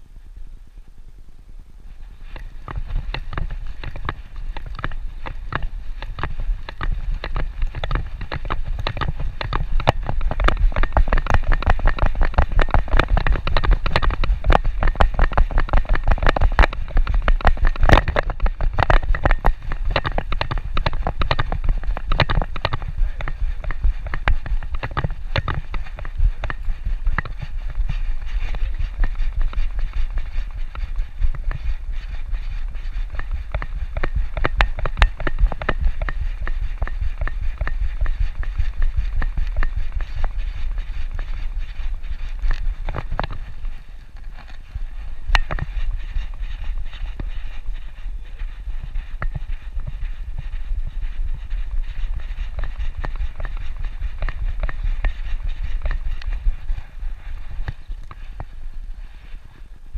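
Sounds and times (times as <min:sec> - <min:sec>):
dog trotting on pavement: 0:02.4 - 0:58.5.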